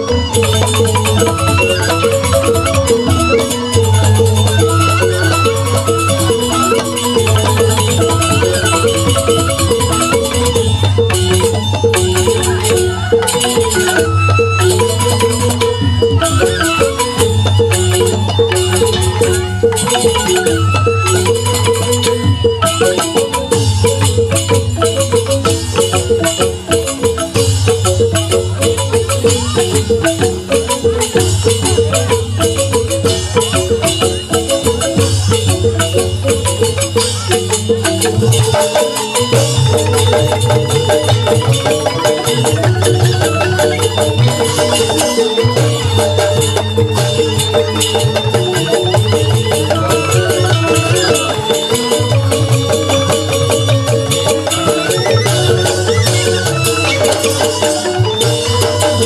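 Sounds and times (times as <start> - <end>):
bamboo xylophones struck with mallets: 0.0 - 59.0
hand drums: 0.0 - 59.0.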